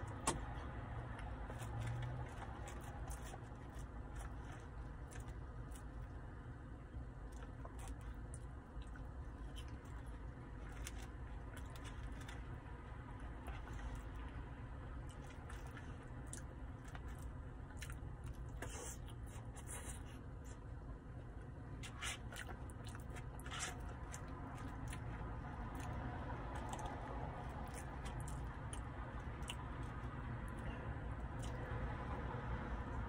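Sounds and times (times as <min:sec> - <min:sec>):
man chewing: 0:00.0 - 0:06.4, 0:07.1 - 0:12.6, 0:13.2 - 0:30.7, 0:31.3 - 0:31.7.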